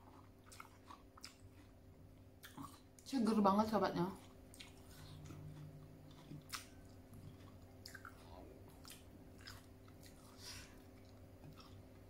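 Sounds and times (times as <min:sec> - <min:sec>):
chewing and biting pear: 0:00.0 - 0:03.4, 0:04.1 - 0:12.0.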